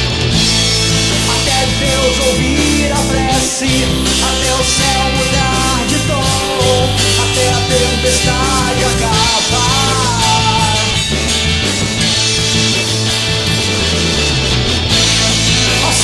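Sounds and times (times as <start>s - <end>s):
bass guitar: 0.0s - 16.0s
distorted electric guitars: 0.0s - 16.0s
drums: 0.0s - 16.0s
wavering melodic lead guitar: 0.0s - 16.0s.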